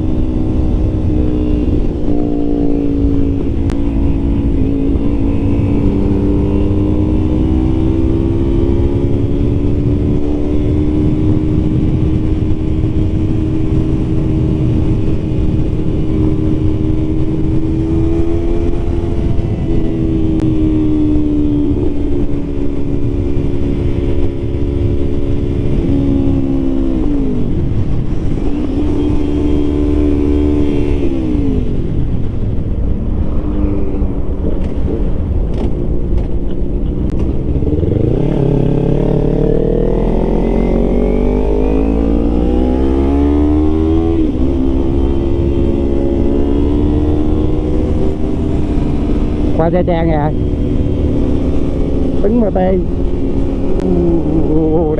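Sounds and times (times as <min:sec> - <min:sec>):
motorcycle engine cruising: 0:00.0 - 0:54.9
wind noise: 0:00.0 - 0:54.9.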